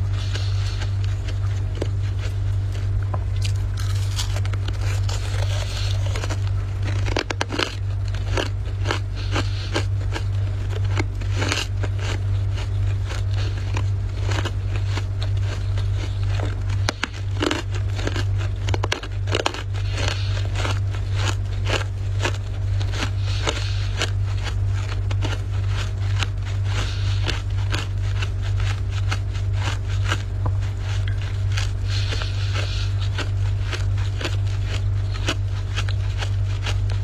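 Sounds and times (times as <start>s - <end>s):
frost crunching and crackling: 0.0s - 37.0s
steady low hum: 0.0s - 37.0s.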